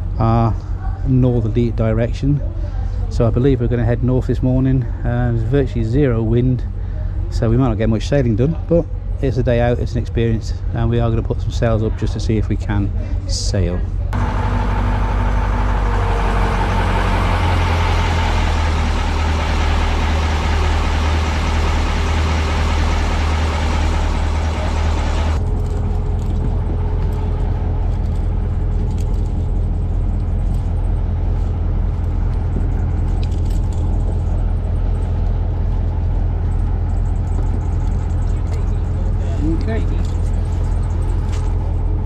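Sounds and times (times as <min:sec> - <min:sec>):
ship engine humming: 0:00.0 - 0:42.0.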